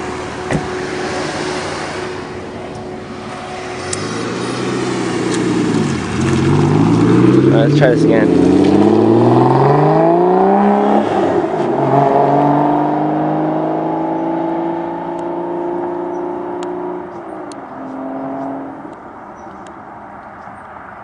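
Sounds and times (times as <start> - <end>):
car engine accelerating hard: 0.0 - 19.6.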